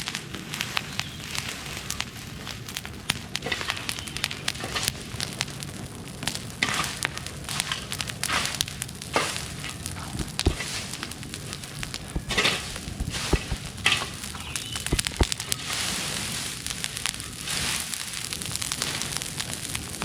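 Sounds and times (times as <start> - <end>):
bonfire crackling and popping: 1.3 - 20.0.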